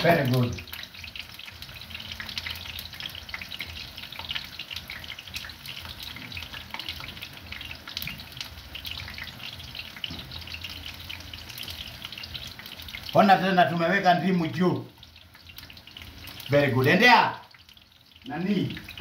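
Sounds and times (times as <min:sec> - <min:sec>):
food sizzling as it fries: 0:00.0 - 0:19.0.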